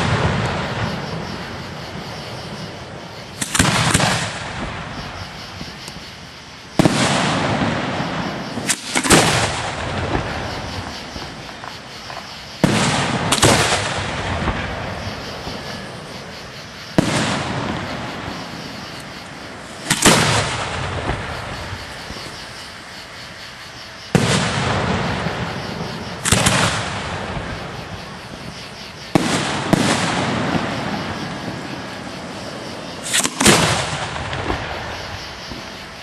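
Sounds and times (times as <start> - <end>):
fireworks bangs with echo: 0.0 - 6.0, 6.8 - 22.6, 24.1 - 36.0.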